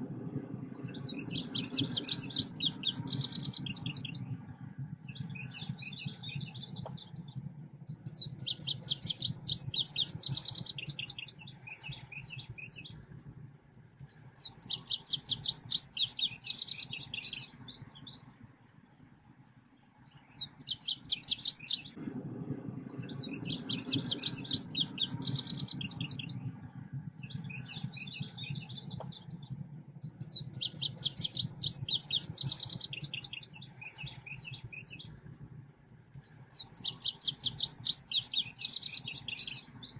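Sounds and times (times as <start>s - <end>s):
low steady hum: 0.0s - 39.9s
songbird chirping song: 0.0s - 39.9s.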